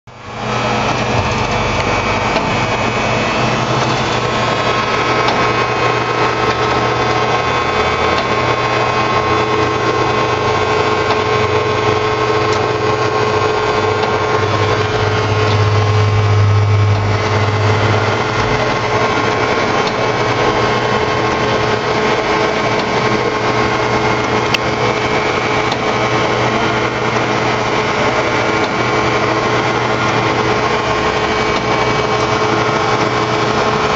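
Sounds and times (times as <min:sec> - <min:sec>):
gas burners rushing: 0:00.1 - 0:33.9
machine mechanical hum: 0:00.1 - 0:33.9.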